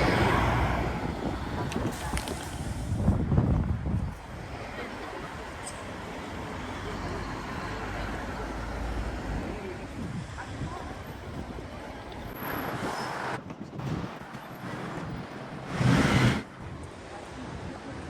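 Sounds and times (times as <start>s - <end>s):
vehicles going by: 0.0s - 18.0s.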